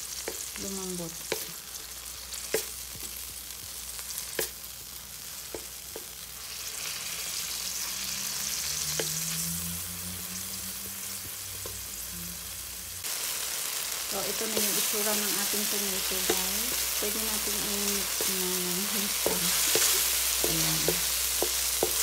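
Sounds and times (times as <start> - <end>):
tomatoes sizzling in oil: 0.0 - 22.0.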